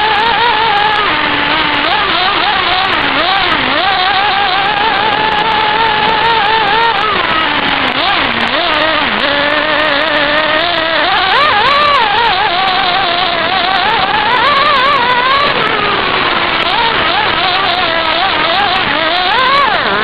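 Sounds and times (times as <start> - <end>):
rc car engine whining: 0.0 - 20.0
steady rushing noise: 0.0 - 20.0.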